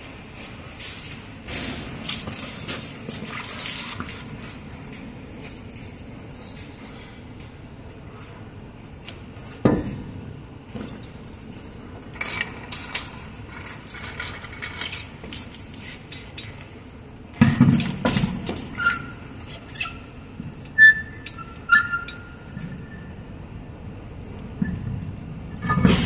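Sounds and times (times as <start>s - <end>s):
metal clinking and rattling: 1.5s - 23.0s.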